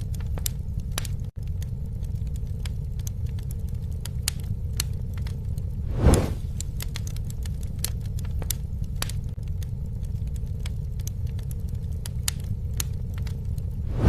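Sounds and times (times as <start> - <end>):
campfire crackling and popping: 0.0 - 14.0
low fire rumble: 0.0 - 14.0.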